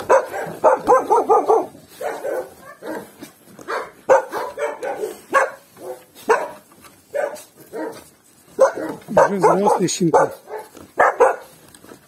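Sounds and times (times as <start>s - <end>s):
puppies barking and yipping: 0.0s - 12.0s.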